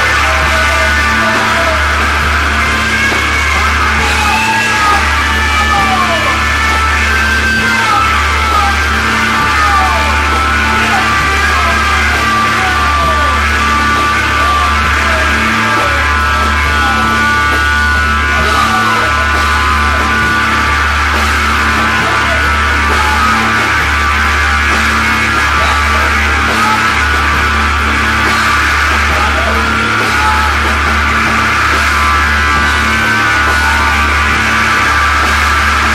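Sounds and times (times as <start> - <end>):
psychedelic rock music: 0.0 - 35.9.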